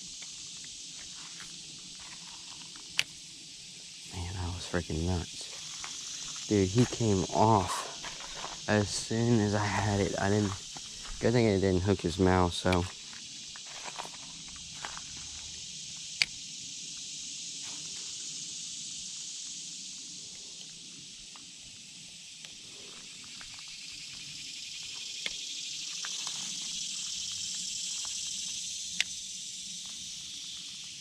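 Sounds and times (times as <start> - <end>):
insect chorus buzzing: 0.0 - 31.0.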